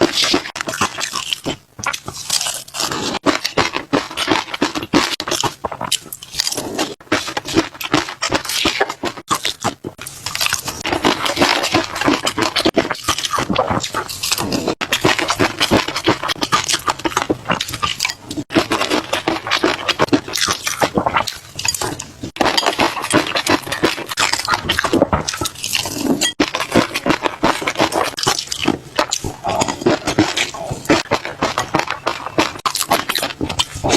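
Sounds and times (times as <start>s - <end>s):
person chewing fish roe: 0.0s - 33.9s.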